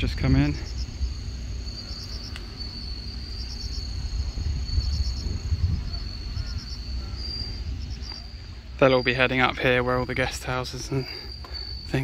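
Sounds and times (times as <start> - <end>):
insects buzzing and chirping: 0.0 - 12.0
low rumble: 0.0 - 12.0.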